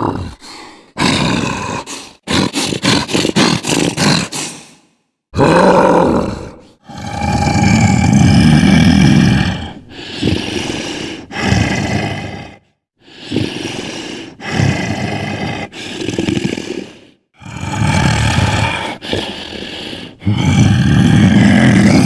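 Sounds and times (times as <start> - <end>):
deep growling roars and grunts: 0.0 - 4.3, 5.4 - 12.7, 13.4 - 22.0.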